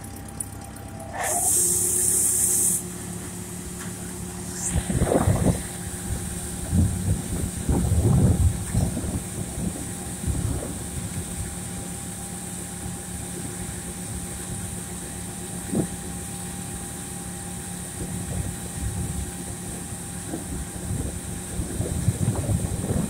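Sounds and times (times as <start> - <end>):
combine harvester droning: 0.0 - 23.0
grain pouring hiss: 1.1 - 23.0.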